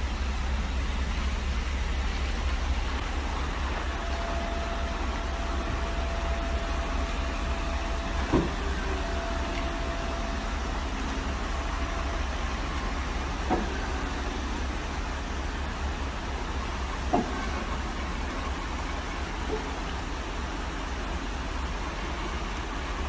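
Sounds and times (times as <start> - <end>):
thin steady whine: 0.0 - 23.0
vehicle engine running: 0.0 - 23.0.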